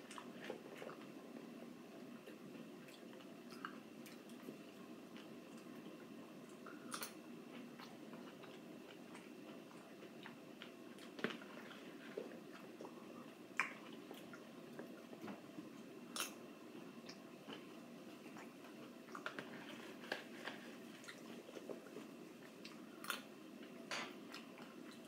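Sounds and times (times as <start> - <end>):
quiet chewing: 0.0 - 16.4, 17.0 - 25.0.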